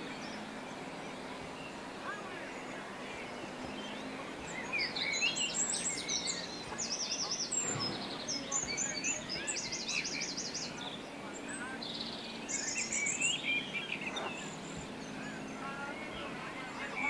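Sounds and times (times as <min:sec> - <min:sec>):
birds chirping and trilling: 0:00.0 - 0:17.0
steady background noise: 0:00.0 - 0:17.0.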